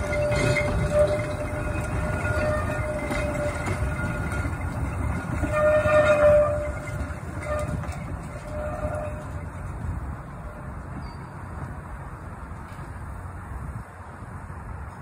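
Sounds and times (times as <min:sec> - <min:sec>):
wheels squealing on track: 0:00.0 - 0:12.1
tram rumbling over rails: 0:00.0 - 0:15.0.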